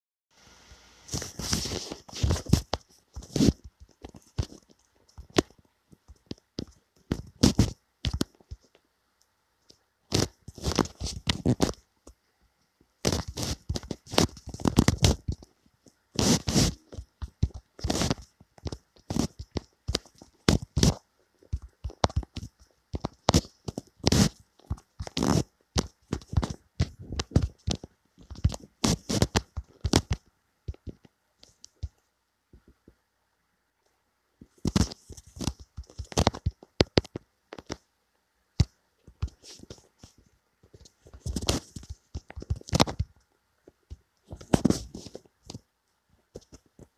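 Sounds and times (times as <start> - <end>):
fingertips tapping on touchscreen: 1.1 - 12.2, 12.8 - 33.0, 34.4 - 37.9, 38.6 - 46.9.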